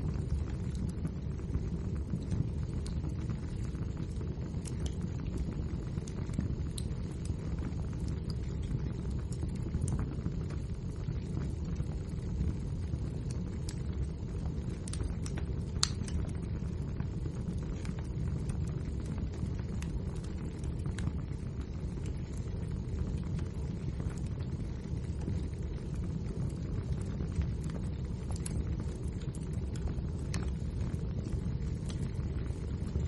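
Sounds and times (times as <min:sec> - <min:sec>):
fire rumbling in fireplace: 0:00.0 - 0:33.0
logs crackling and popping: 0:00.0 - 0:33.0.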